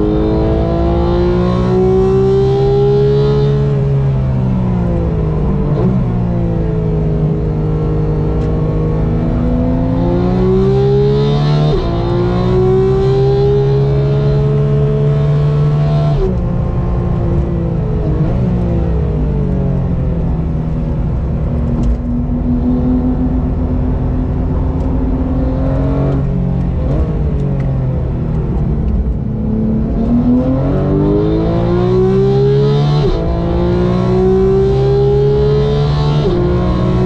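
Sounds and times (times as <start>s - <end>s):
sports car engine shifting gears: 0.0s - 37.0s.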